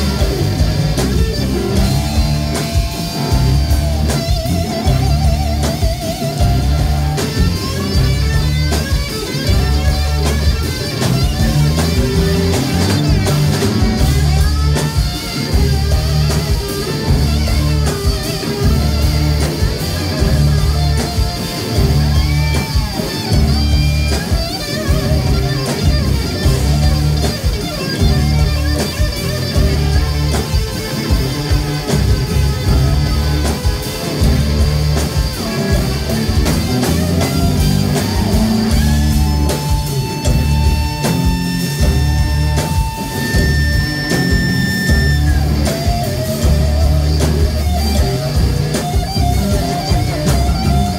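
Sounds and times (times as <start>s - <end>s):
bass and drums: 0.0s - 50.9s
electric guitar lead: 0.0s - 50.9s.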